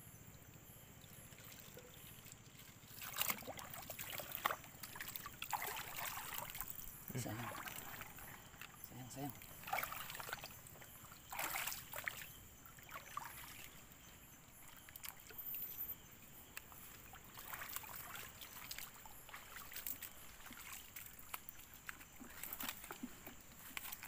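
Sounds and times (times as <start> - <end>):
footsteps wading through water: 0.6 - 24.0.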